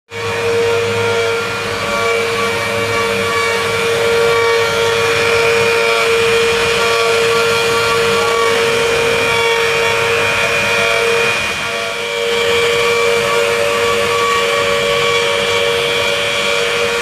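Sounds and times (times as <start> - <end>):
router spindle whine: 0.1 - 17.0.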